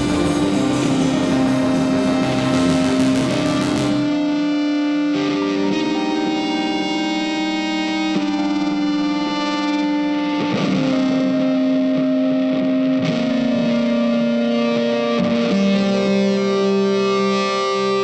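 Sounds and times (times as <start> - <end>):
guitar holding long notes: 0.0 - 18.0.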